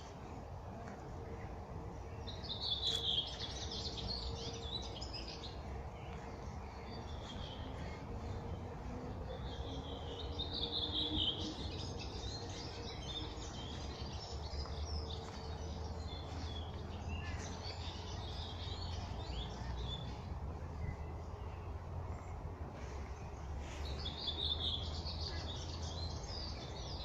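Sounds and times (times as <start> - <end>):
songbirds singing and chirping: 0.0 - 27.0.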